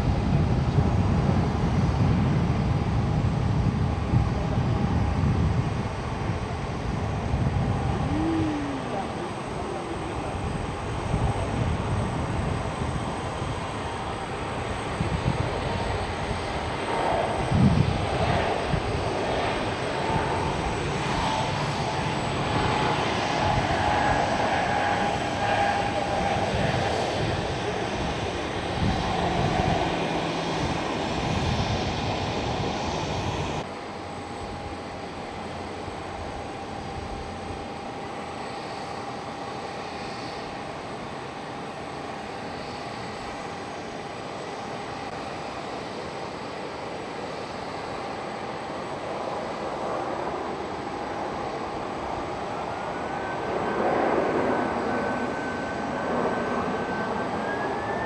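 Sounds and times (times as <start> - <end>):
jet engines roaring: 0.0 - 58.0
steady engine whine: 0.0 - 58.0.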